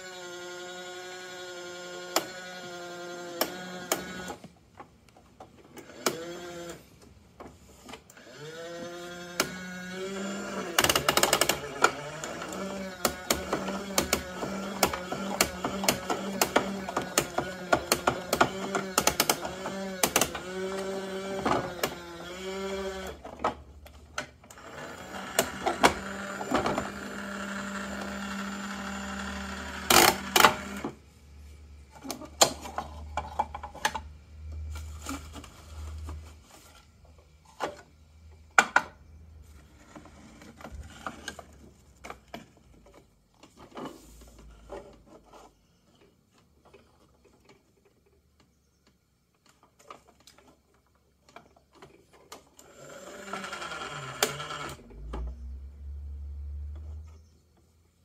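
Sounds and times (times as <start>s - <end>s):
toy truck mechanical hum: 0.0s - 4.6s, 5.4s - 38.8s, 39.4s - 58.0s
plastic parts clicking and knocking: 1.5s - 31.0s, 31.9s - 55.6s.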